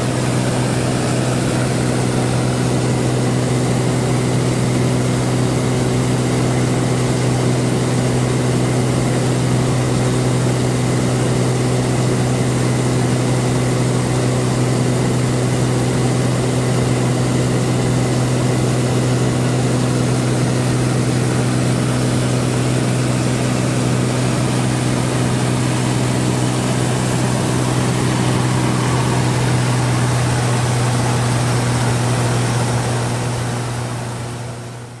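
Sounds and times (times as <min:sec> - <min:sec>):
engine drone with low hum: 0:00.0 - 0:35.0.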